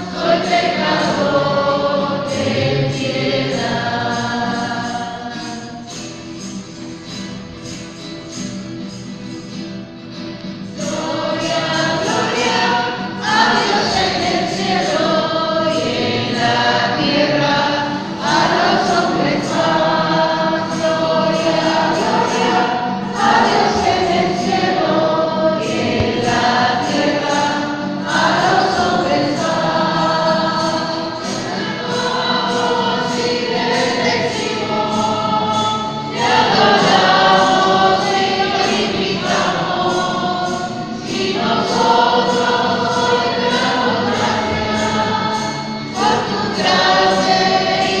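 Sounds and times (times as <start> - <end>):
choir singing a hymn: 0.0 - 9.5, 10.4 - 48.0
musical accompaniment: 0.0 - 48.0.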